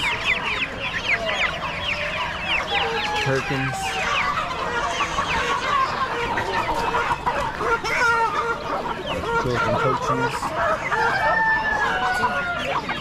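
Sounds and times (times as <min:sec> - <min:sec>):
chickens and roosters clucking: 0:00.0 - 0:13.0.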